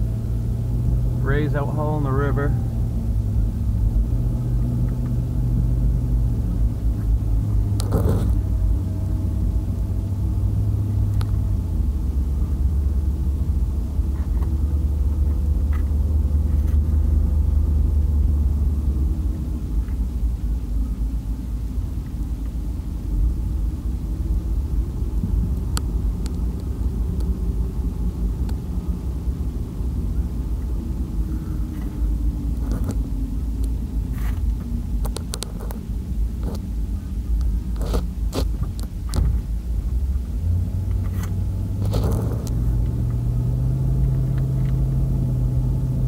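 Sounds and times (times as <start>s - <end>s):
engine and road rumble: 0.0s - 46.0s.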